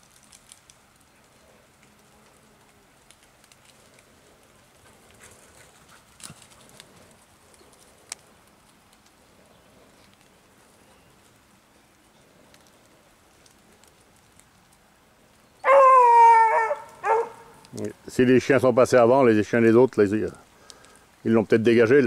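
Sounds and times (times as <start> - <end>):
faint ticks and crackles: 0.0 - 22.0.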